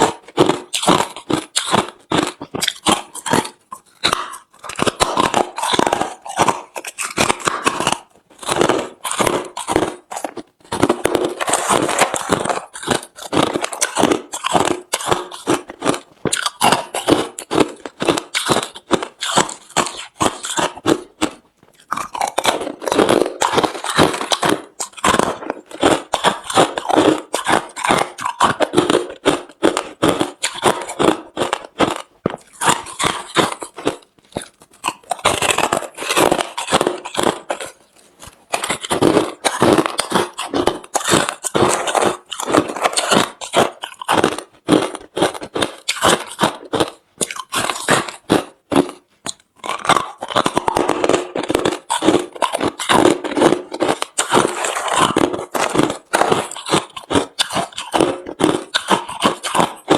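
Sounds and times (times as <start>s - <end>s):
ice being crunched: 0.0s - 49.0s, 49.6s - 59.9s.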